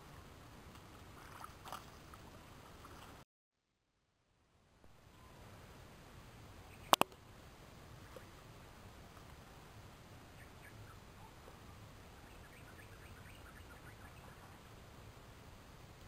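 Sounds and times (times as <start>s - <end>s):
steady low hiss: 0.0s - 3.2s, 4.0s - 16.0s.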